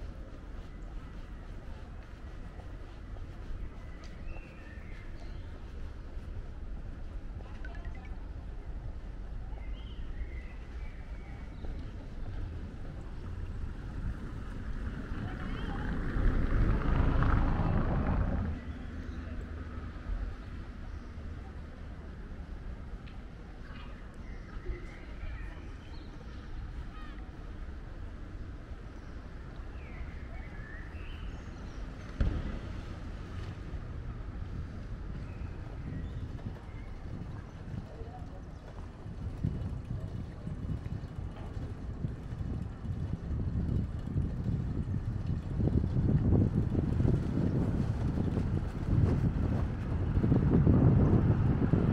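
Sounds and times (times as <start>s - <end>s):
distant traffic: 0.0s - 51.9s
wind rumbling on microphone: 0.0s - 51.9s.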